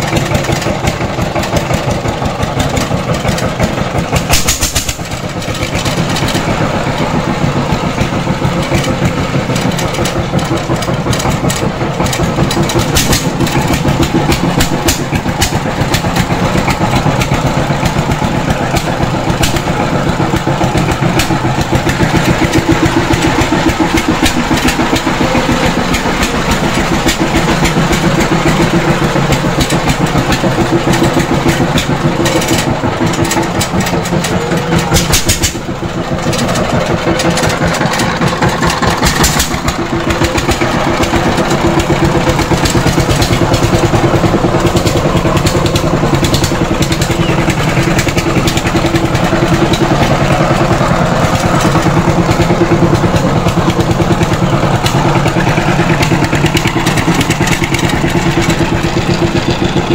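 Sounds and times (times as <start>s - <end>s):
tiller diesel engine chugging: 0.0s - 59.9s.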